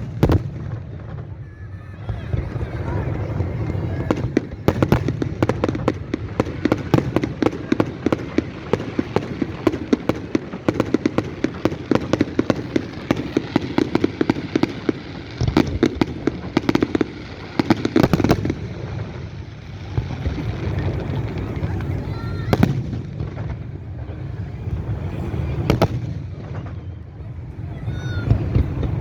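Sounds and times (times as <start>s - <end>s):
fireworks crackling and popping: 0.0s - 29.0s
loud fireworks bangs: 0.0s - 29.0s.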